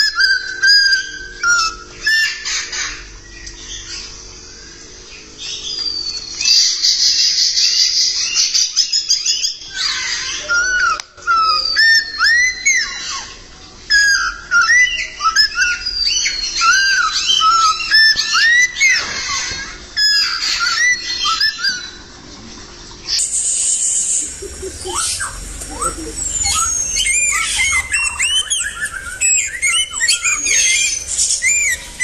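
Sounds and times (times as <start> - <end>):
songbird whistling and trilling: 0.0 - 4.7, 5.4 - 22.0, 23.0 - 32.0.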